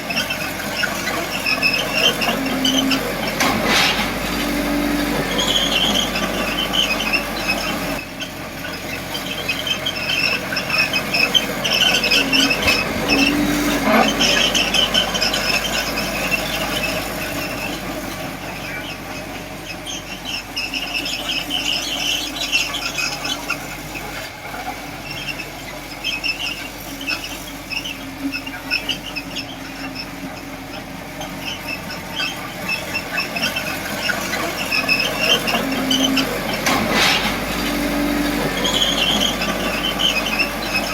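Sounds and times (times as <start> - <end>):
bulldozer engine running: 0.0 - 40.9
steel tracks squealing: 0.0 - 40.9.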